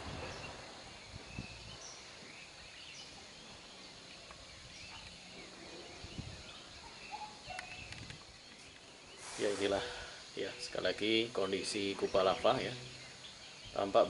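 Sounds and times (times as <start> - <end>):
high bird chirps: 0.0 - 14.0
soft steady hiss: 0.0 - 14.0.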